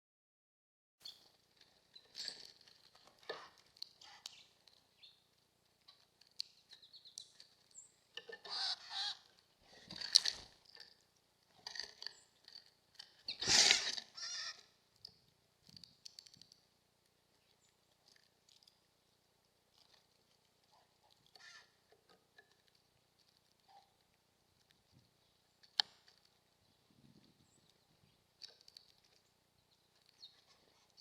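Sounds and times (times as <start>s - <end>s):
small birds chirping: 1.0s - 9.9s, 11.9s - 31.0s.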